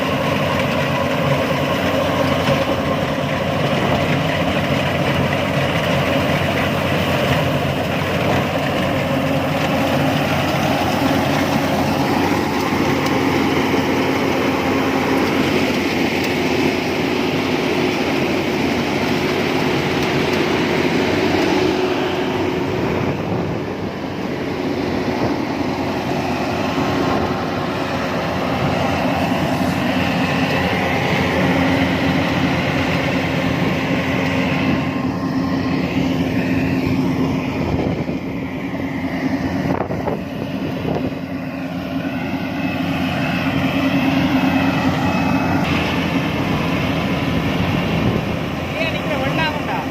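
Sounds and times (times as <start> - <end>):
heavy machinery droning: 0.0 - 49.9.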